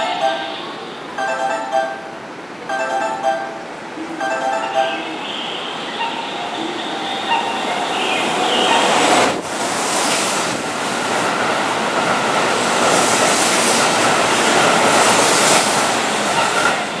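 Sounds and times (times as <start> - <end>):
electric train running past: 0.0 - 17.0.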